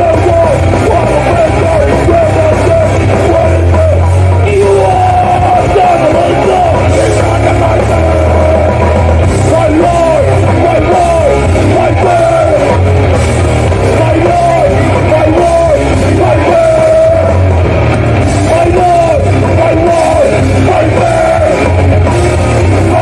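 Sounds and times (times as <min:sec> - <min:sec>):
hardcore band playing: 0:00.0 - 0:23.0.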